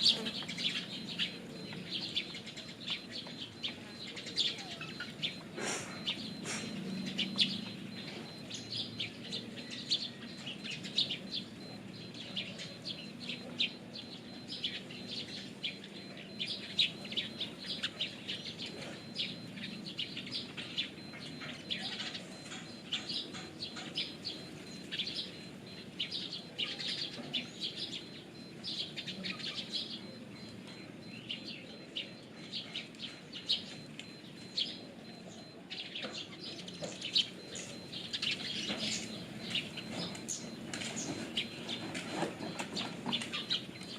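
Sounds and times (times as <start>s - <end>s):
pigeons cooing: 0.0s - 34.8s, 36.1s - 43.9s
birds chirping: 0.0s - 43.9s.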